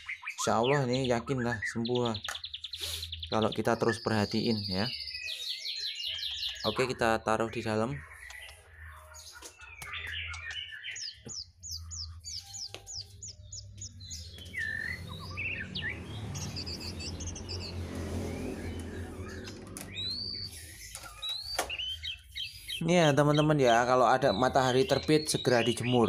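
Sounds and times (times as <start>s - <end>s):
small songbirds chirping: 0.0s - 26.0s.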